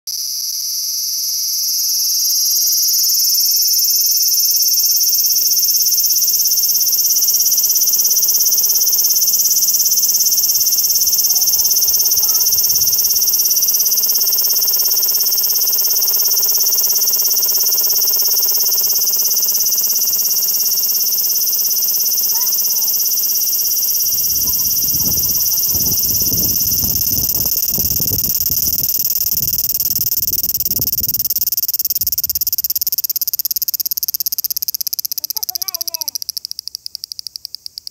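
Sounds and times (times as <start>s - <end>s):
cicada buzzing: 0.1s - 37.9s.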